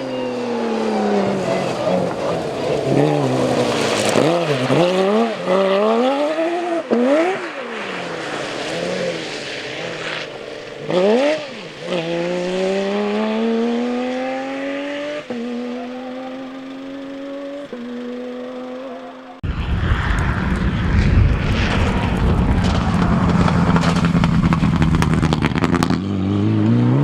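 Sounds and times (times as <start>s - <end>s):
car accelerating away: 0.0s - 27.0s
rally car engine revving: 0.0s - 27.0s.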